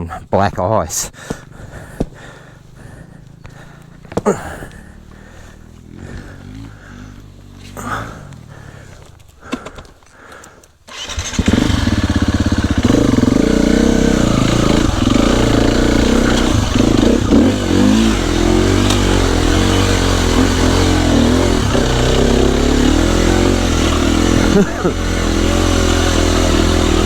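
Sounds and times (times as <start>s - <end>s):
dirt bike engine revving: 1.2s - 9.6s, 10.9s - 27.0s.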